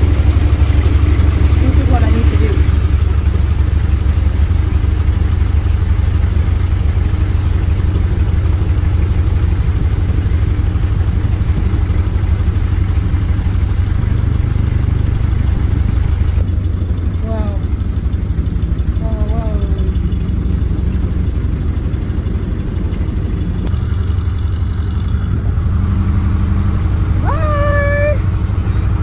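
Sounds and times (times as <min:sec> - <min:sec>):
boat engine throbbing: 0:00.0 - 0:29.0.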